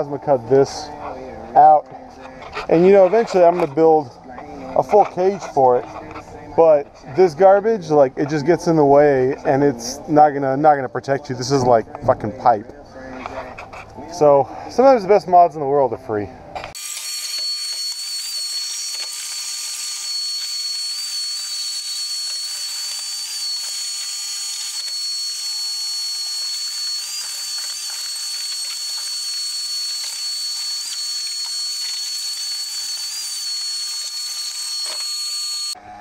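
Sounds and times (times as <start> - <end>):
shop vacuum whining: 0.0 - 10.1, 16.4 - 36.0.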